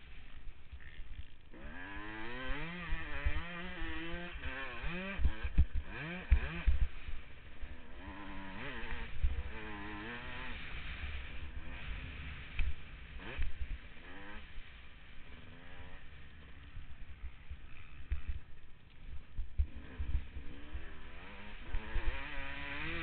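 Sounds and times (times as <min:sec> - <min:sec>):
motocross engine revving: 0:00.1 - 0:23.0.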